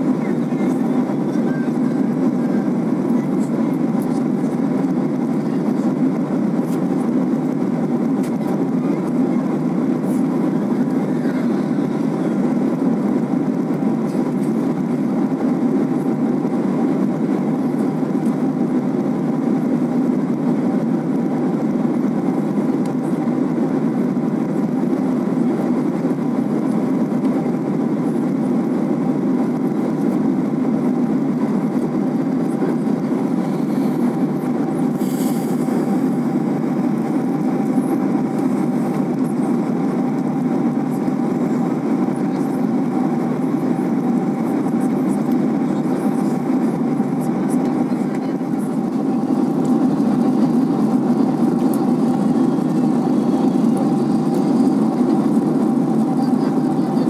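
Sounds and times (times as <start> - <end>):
jet engines and airflow rumble: 0.0 - 57.0.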